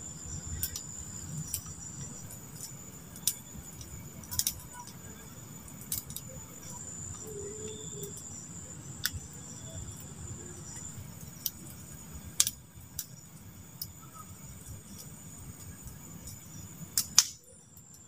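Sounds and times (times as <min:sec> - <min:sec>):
campfire crackling and popping: 0:00.0 - 0:18.0
high insect trill: 0:00.0 - 0:18.0.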